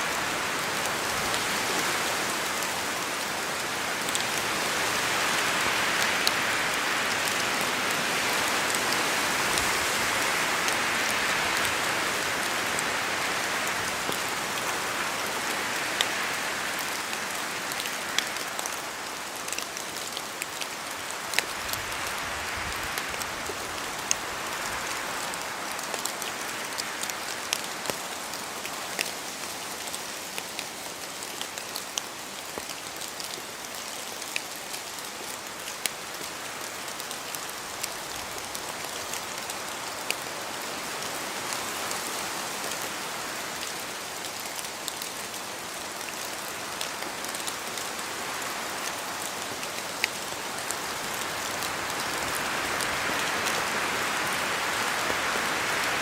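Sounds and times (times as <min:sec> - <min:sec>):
steady rain in forest: 0:00.0 - 0:56.0
close raindrops ticking: 0:10.3 - 0:42.0, 0:42.6 - 0:56.0.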